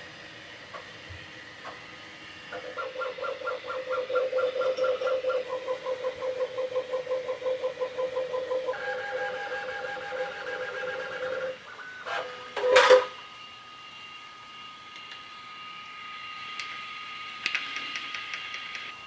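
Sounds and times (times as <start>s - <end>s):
printer stepper motors humming: 0.0s - 19.0s.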